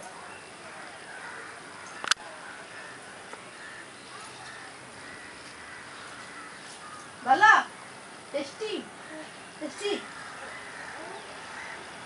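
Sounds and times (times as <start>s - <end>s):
steady background hiss: 0.0s - 12.0s
faint bird calls: 0.2s - 12.0s.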